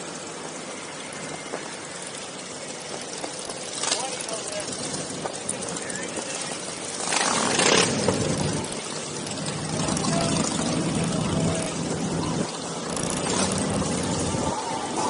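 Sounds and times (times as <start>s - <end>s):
motorcycle engines at low speed: 0.0s - 15.0s.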